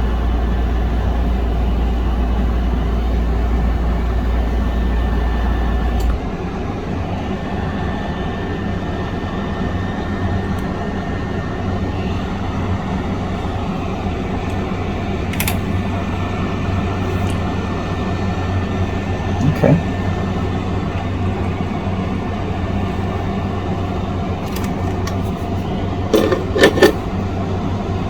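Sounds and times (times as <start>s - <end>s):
heat gun fan blowing: 0.0s - 28.0s.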